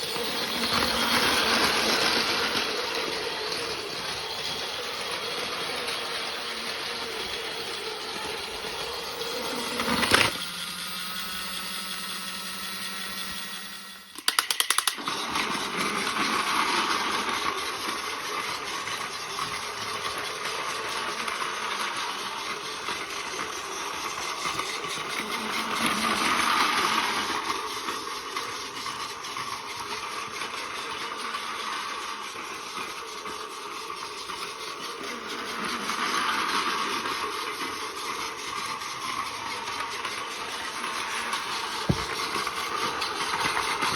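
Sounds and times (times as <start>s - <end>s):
toy train motor buzz: 0.0s - 43.9s.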